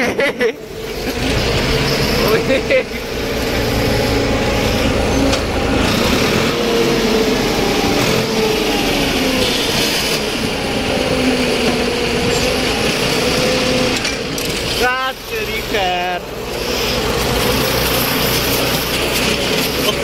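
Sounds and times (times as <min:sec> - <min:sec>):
tractor diesel engine running: 0:00.6 - 0:20.0.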